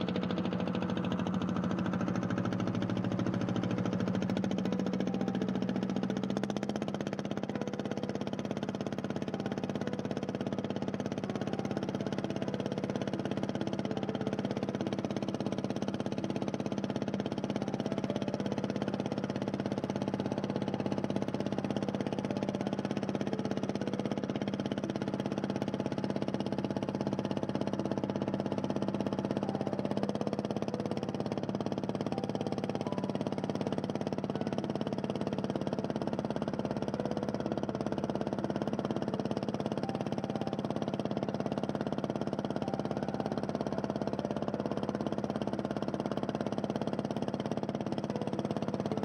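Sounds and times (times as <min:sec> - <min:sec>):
boat engine humming: 0:00.0 - 0:49.0.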